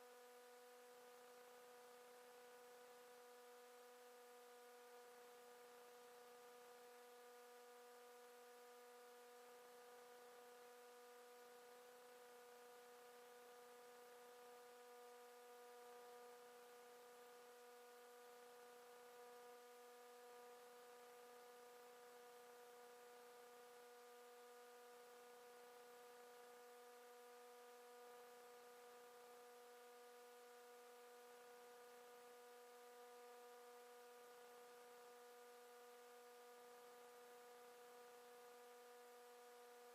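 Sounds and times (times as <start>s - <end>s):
faint electrical hum: 0.0s - 39.9s.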